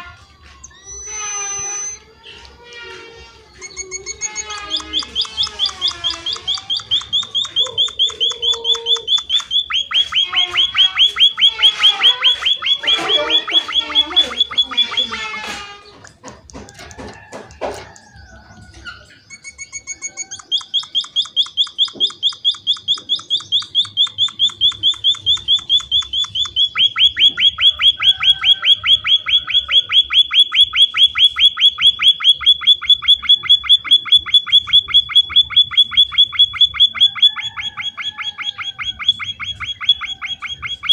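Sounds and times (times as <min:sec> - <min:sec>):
varied chattering bird calls: 0:00.0 - 0:40.9
finches chirping: 0:00.5 - 0:02.5, 0:03.5 - 0:16.2, 0:17.9 - 0:40.9.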